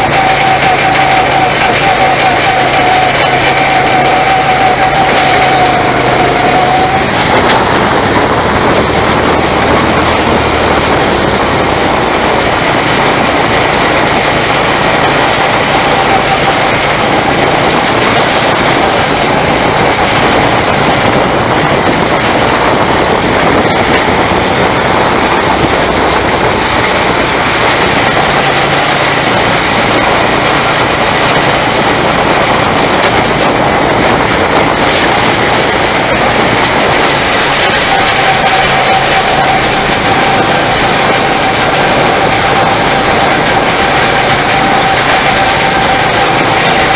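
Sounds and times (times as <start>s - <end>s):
go-kart engine whine: 0.0s - 46.9s
road and wind noise: 0.0s - 46.9s.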